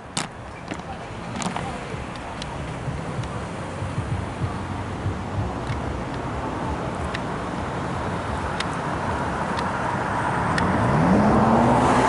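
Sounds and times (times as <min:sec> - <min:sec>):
passing train rumble: 0:00.0 - 0:11.9
road traffic: 0:00.0 - 0:12.0.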